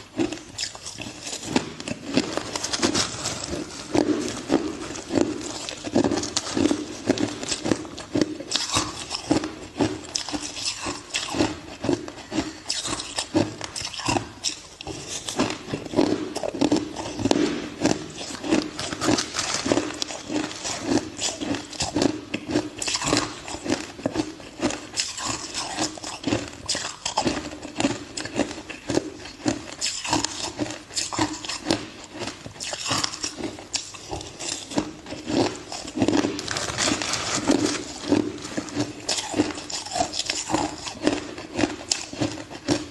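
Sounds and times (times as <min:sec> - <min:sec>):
ice crunching being chewed: 0:00.0 - 0:42.9.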